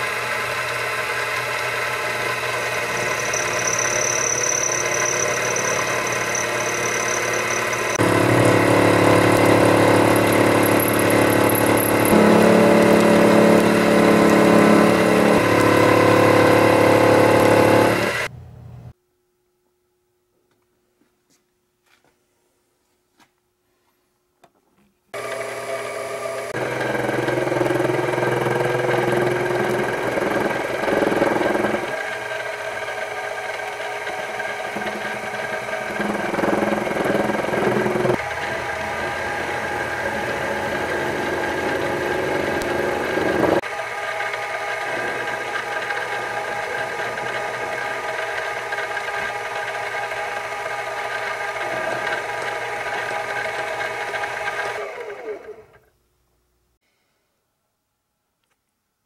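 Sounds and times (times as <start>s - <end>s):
lathe motor and gear whine: 0.0s - 18.3s, 25.2s - 55.8s.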